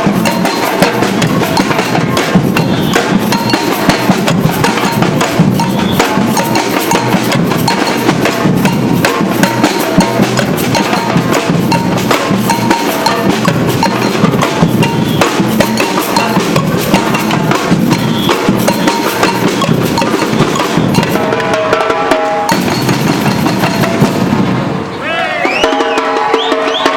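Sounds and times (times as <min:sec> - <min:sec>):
sharp clicking drum strokes: 0:00.0 - 0:24.5
drum band playing: 0:00.0 - 0:26.9.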